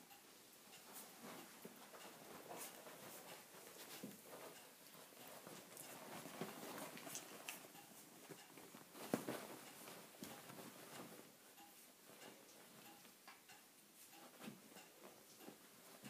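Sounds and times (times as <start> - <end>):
soft clicks and thumps: 0.0 - 16.0
puppies scuffling on fabric: 0.8 - 13.2, 14.0 - 16.0.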